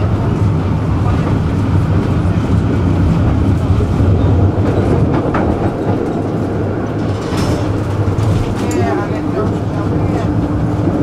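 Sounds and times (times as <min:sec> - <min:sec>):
tram wheels rumbling on rail: 0:00.0 - 0:11.0.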